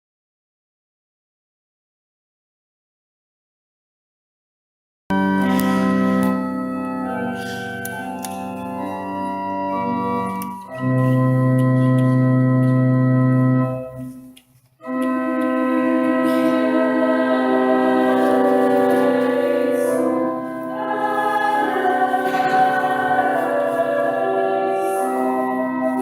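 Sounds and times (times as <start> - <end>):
organ playing held chords: 5.1 - 26.0.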